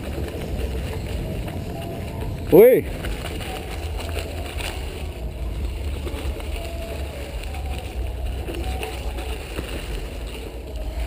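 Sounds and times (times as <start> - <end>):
bike tyres and rattling: 0.0 - 11.0.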